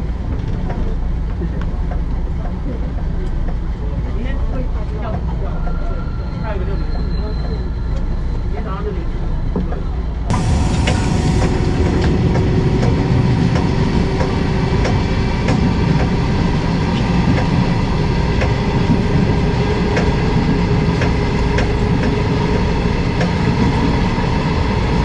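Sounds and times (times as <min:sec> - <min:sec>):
train running noise with whine: 0:00.0 - 0:25.0.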